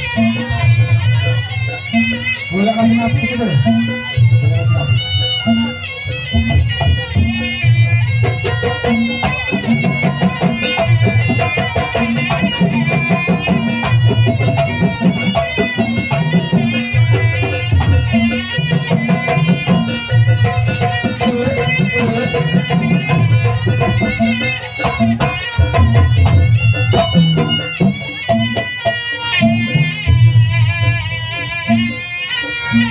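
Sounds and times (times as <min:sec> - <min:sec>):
drums beating: 0:00.0 - 0:32.9
wavering high melody: 0:00.0 - 0:32.9.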